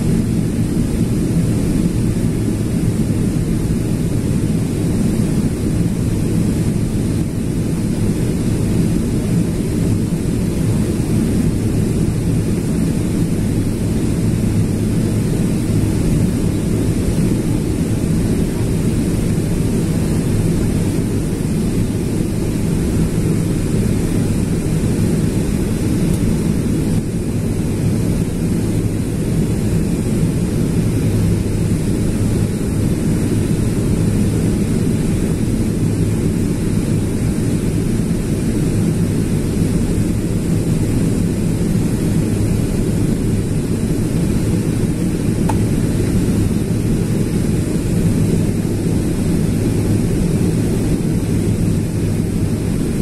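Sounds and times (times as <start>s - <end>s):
airliner cabin roar: 0.0s - 53.0s.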